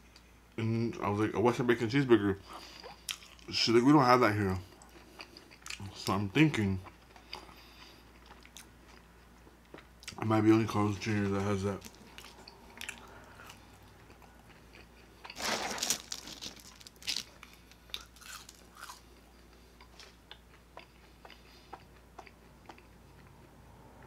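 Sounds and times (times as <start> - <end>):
chewing crunchy fries: 2.4 - 23.8.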